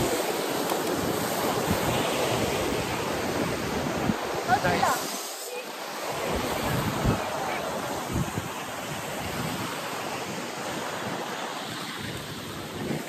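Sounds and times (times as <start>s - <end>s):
wind buffeting microphone: 0.0s - 5.2s, 5.8s - 13.0s
surf washing on sand: 0.0s - 13.0s.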